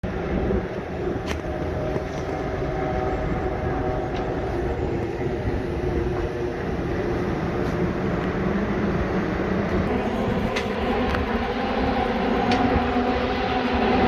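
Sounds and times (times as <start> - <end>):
race car engines droning: 0.0 - 14.0.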